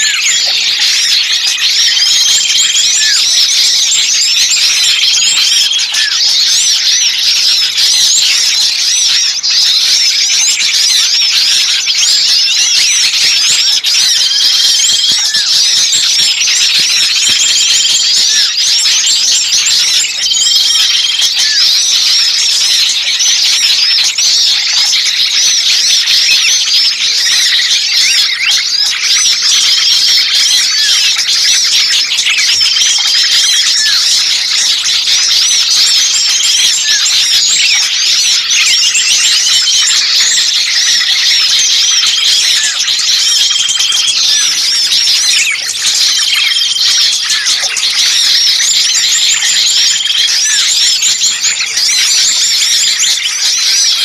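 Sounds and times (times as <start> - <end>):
songbirds chattering and twittering: 0.0 - 54.0.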